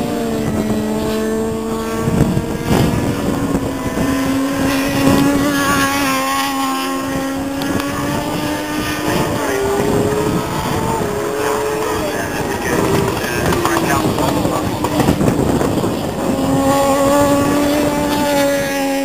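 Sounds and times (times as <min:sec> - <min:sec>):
motorcycle engine at high revs: 0:00.0 - 0:19.0
wind buffeting microphone: 0:00.0 - 0:19.0.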